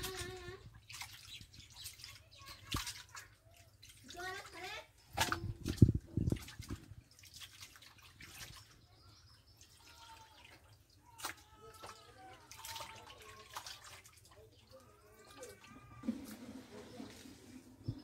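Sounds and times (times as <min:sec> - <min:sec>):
water dripping and splashing: 0:00.0 - 0:18.0.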